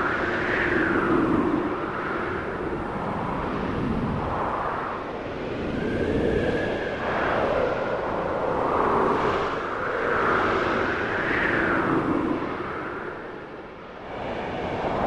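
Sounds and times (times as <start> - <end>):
wind gusting and howling: 0.0 - 15.0.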